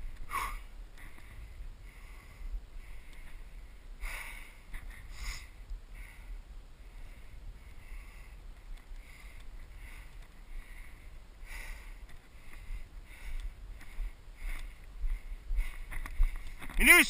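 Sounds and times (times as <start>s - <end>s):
soft rhythmic rustling: 0.0s - 16.8s
low wind rumble: 0.0s - 16.9s.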